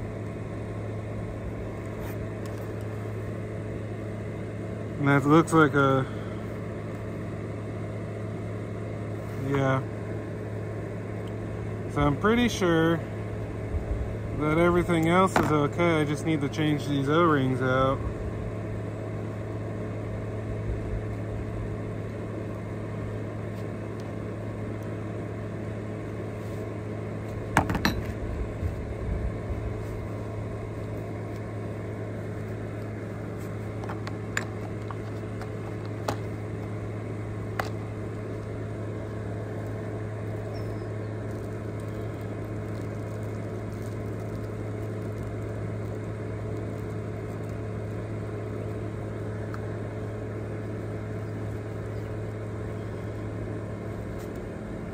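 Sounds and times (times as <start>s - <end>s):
fan humming: 0.0s - 54.9s.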